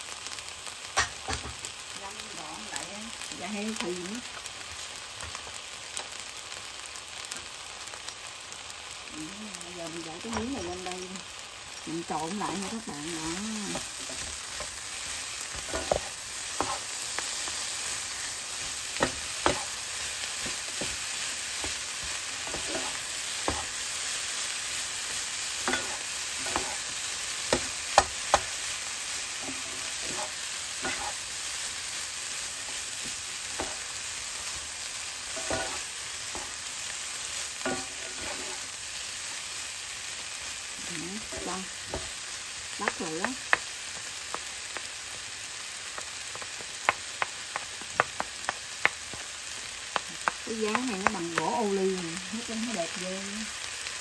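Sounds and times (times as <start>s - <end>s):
rice sizzling in frying pan: 0.0s - 54.0s.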